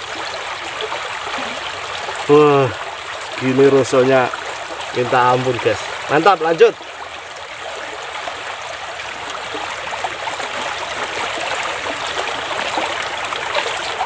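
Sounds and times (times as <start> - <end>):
stream flowing and rippling: 0.0 - 14.0.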